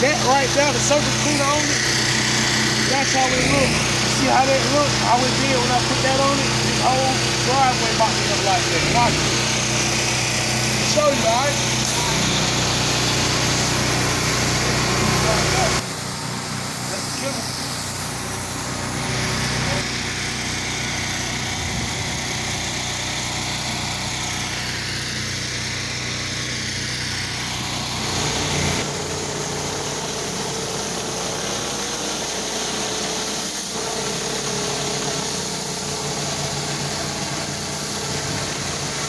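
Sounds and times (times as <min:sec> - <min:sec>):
pressure washer engine running: 0:00.0 - 0:39.0.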